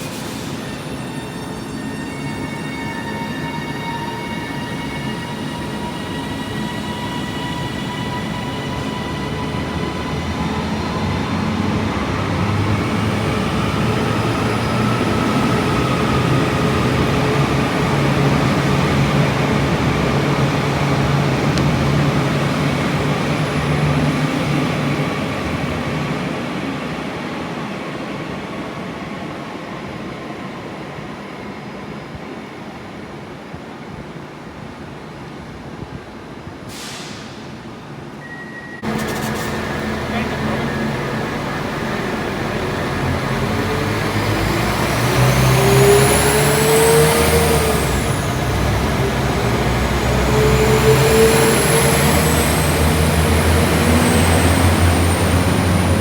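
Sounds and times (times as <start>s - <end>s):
train passing on tracks: 0.0s - 56.0s.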